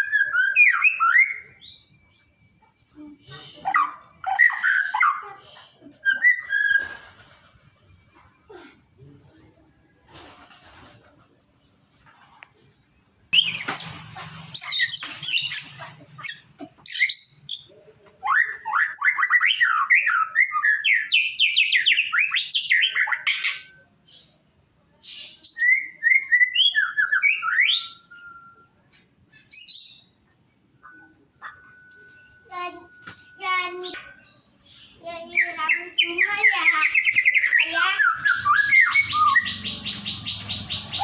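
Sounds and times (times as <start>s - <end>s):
songbird singing whistles and trills: 0.0s - 3.0s, 3.7s - 5.3s, 6.0s - 7.2s, 13.3s - 14.0s, 14.6s - 41.0s.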